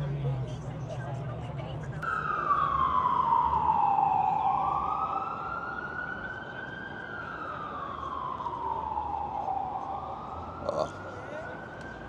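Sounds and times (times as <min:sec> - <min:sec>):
emergency vehicle siren wailing: 0:02.0 - 0:12.0.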